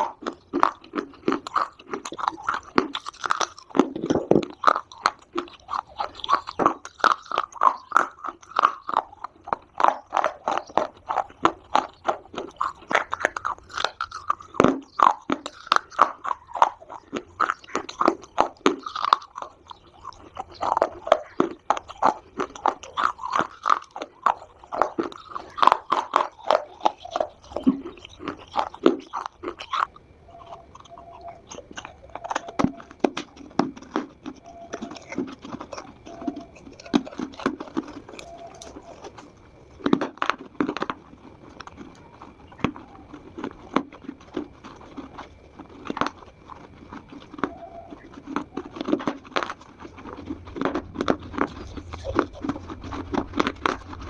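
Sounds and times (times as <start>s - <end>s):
crunching and chewing clay chunks: 0.0s - 54.0s.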